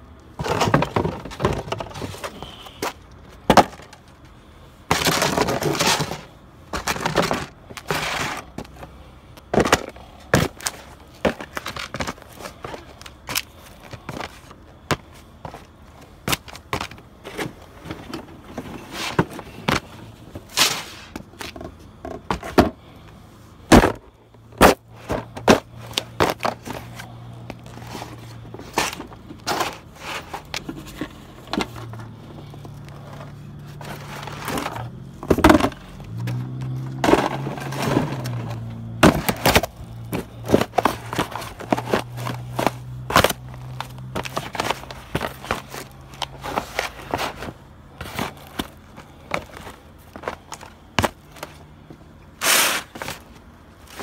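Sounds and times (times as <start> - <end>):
cardboard boxes crunching underfoot: 0.3 - 22.9, 23.6 - 54.0.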